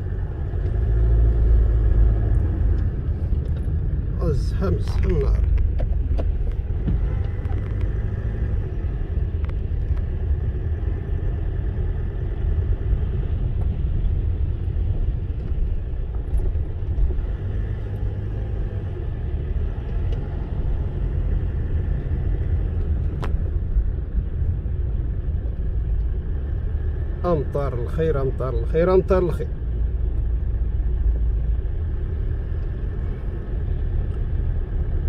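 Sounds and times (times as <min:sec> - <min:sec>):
car engine and tyres on wet road: 0:00.0 - 0:35.0.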